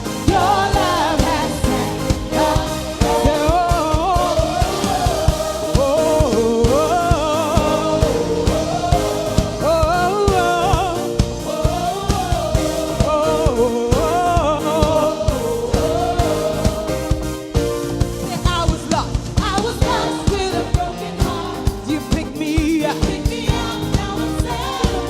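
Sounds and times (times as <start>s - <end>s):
drum beat: 0.0s - 25.0s
live band playing upbeat song: 0.0s - 25.0s
person singing wordless melody: 0.3s - 16.7s, 18.2s - 25.0s.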